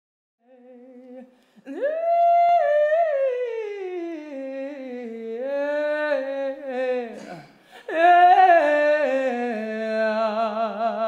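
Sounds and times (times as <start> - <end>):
woman singing wordlessly: 0.4 - 11.0.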